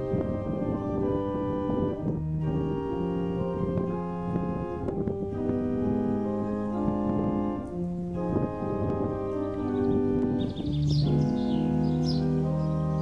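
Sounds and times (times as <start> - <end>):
bass line: 0.0 - 13.0
organ chords: 0.0 - 13.0.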